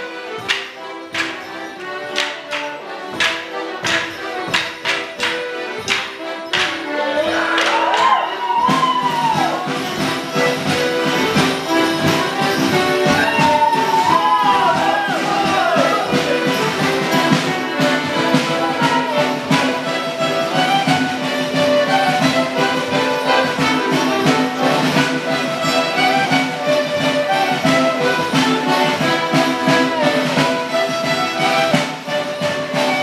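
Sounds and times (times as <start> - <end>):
folk band playing dance tune: 0.0 - 33.0.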